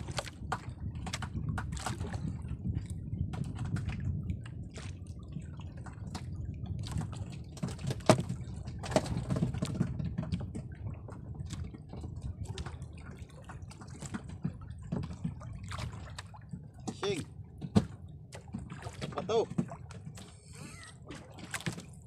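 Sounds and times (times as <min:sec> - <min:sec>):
drips and small splashes: 0:00.0 - 0:22.0
sea water sloshing against boat: 0:00.0 - 0:22.0.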